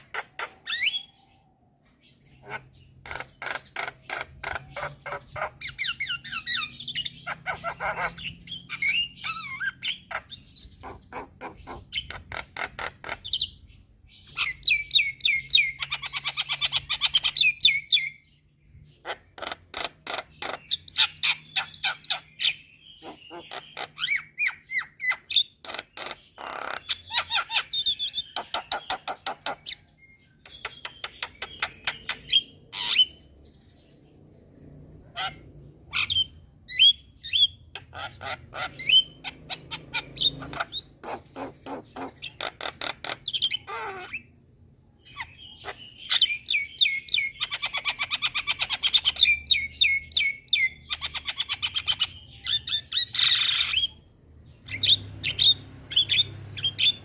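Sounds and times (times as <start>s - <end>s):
harsh squawking bird calls: 0.0s - 57.0s.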